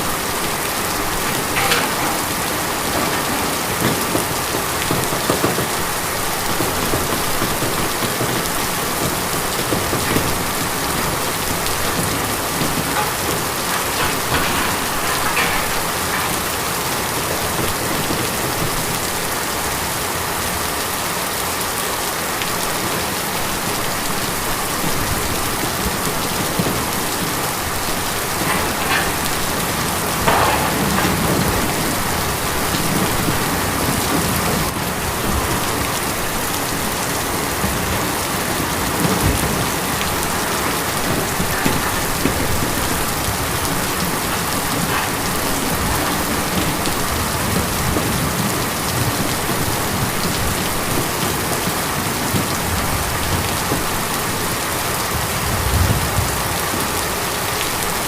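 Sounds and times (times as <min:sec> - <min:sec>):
heavy rain on a tin roof: 0:00.0 - 0:58.0
louder raindrops: 0:00.0 - 0:58.0.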